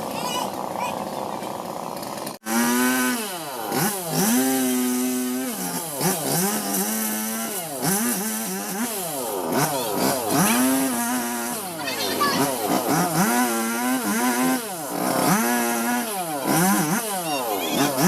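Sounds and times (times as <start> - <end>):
chainsaw running at high revs: 0.0 - 18.0.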